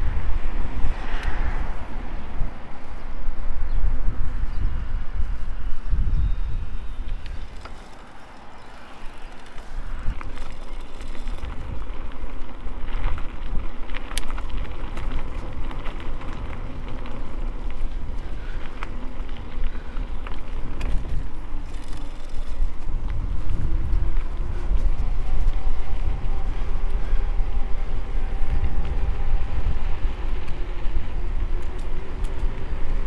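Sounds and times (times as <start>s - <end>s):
wind rumble on microphone: 0.0s - 33.0s
bike clicking and rattling: 5.2s - 33.0s.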